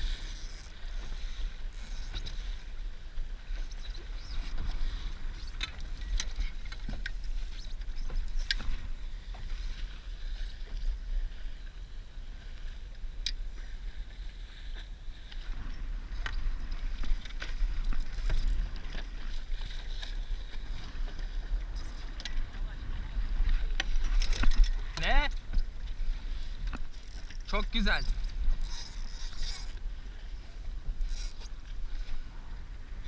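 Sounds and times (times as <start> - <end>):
wind rumble on microphone: 0.0 - 33.0.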